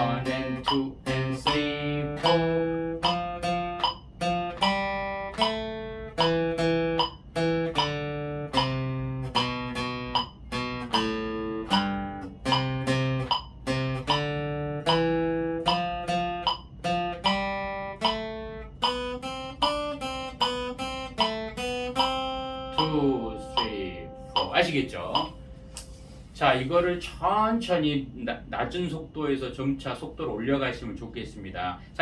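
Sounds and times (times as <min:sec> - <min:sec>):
acoustic guitar melody: 0:00.0 - 0:26.6.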